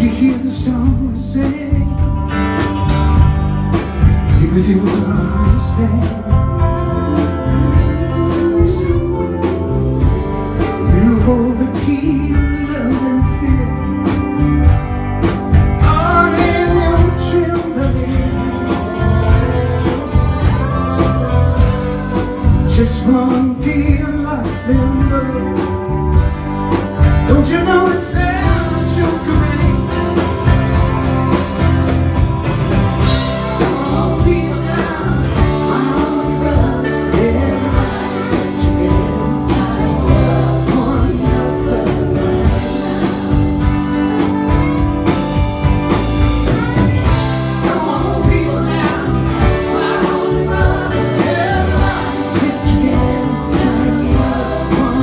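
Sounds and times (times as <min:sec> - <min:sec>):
acoustic guitar: 0:00.0 - 0:55.0
drums: 0:00.0 - 0:55.0
person singing: 0:04.0 - 0:31.7, 0:32.7 - 0:55.0.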